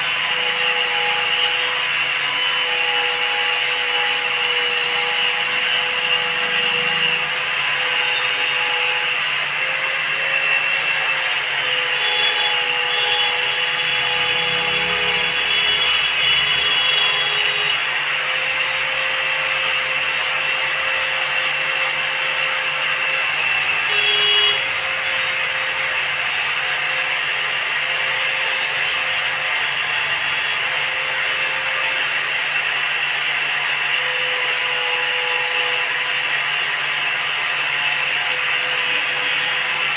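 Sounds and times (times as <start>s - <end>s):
tool scraping a loudspeaker: 0.0s - 33.0s.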